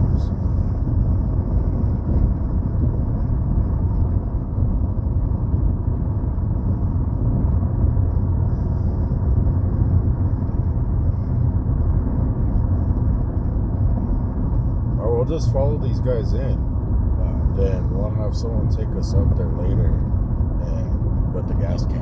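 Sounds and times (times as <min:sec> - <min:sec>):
car interior road rumble: 0:00.0 - 0:22.0.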